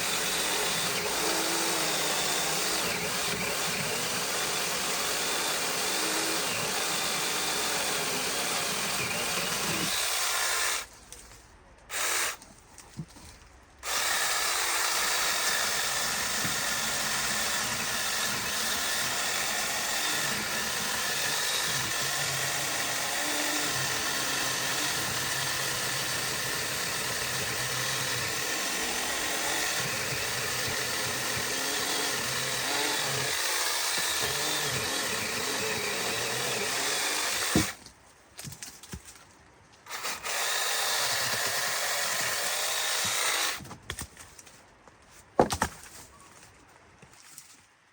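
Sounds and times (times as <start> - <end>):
chainsaw cutting branches: 0.0 - 10.9, 13.8 - 37.8, 39.9 - 43.6.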